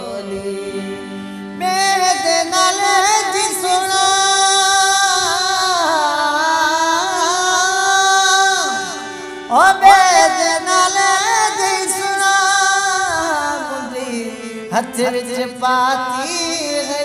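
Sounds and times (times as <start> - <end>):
ornamented wordless folk melody: 0.0 - 17.0.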